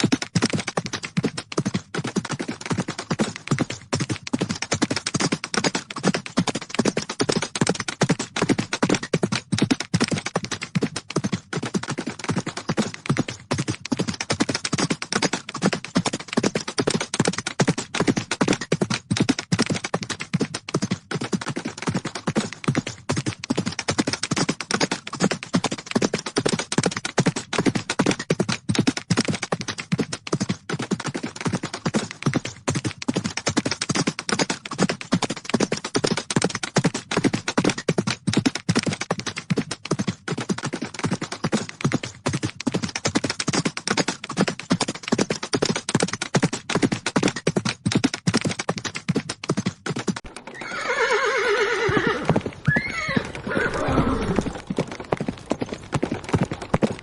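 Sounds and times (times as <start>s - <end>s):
horses' hooves galloping: 0.0s - 57.0s.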